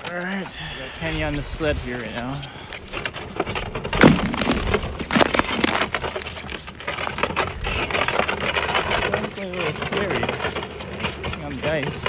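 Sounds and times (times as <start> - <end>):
lake ice cracking: 0.0 - 12.0.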